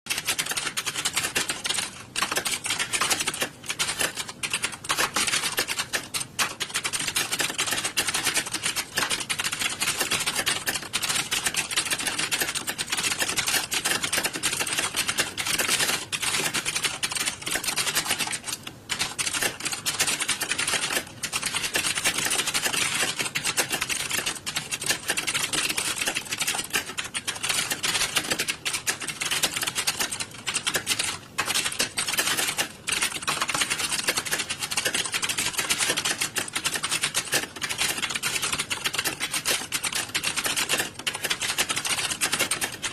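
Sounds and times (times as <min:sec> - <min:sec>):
fast typing on a keyboard: 0:00.1 - 0:42.9.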